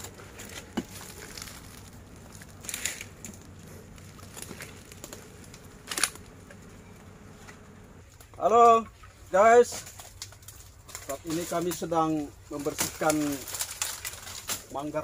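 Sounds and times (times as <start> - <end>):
dry leaves rustling and crunching: 0.0 - 6.7, 8.0 - 15.0.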